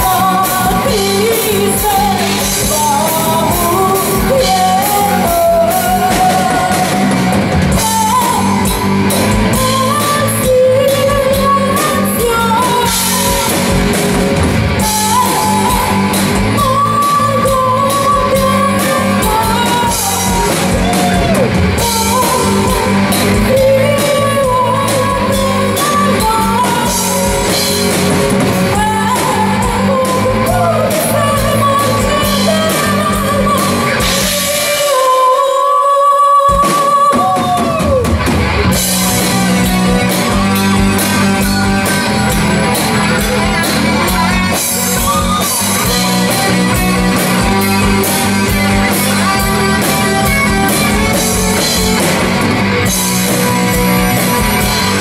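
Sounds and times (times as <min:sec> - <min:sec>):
person singing: 0:00.0 - 0:14.0, 0:14.8 - 0:55.0
metal band playing live: 0:00.0 - 0:35.5, 0:36.4 - 0:55.0.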